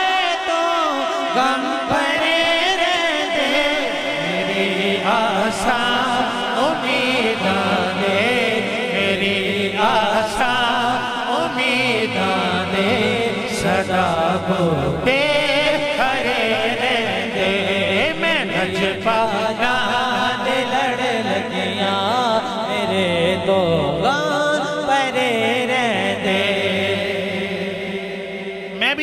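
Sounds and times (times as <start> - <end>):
men chanting together: 0.0 - 28.8.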